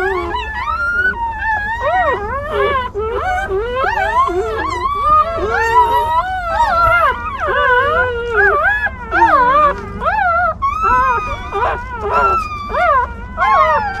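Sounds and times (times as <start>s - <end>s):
puppies whining: 0.0s - 14.0s.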